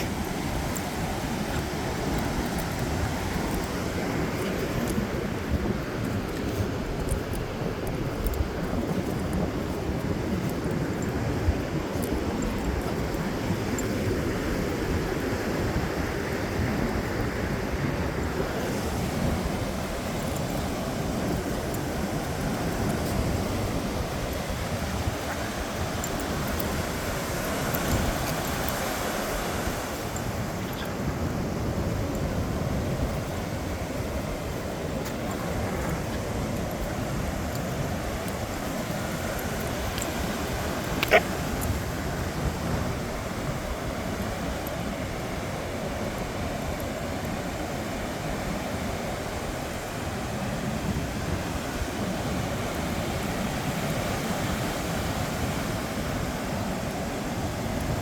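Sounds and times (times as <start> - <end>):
ocean surf washing on beach: 0.0 - 58.0
wind rumbling on microphone: 0.0 - 58.0.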